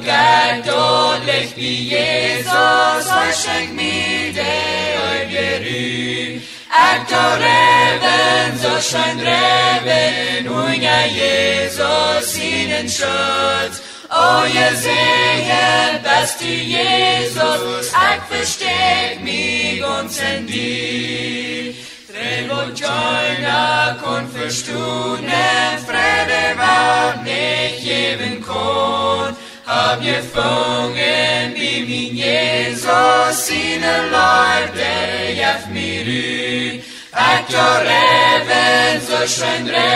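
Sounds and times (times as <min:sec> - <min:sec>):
unaccompanied voices singing a hymn: 0:00.0 - 0:39.9.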